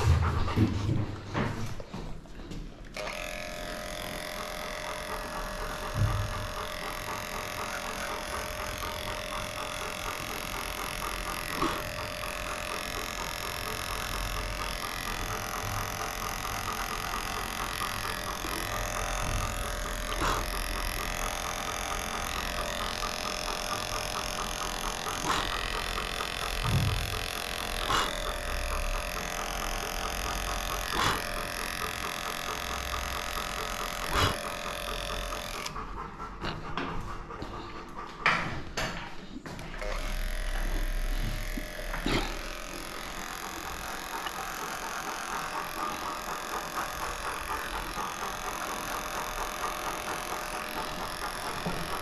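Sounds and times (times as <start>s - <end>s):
dog clipper humming: 0.0s - 52.0s.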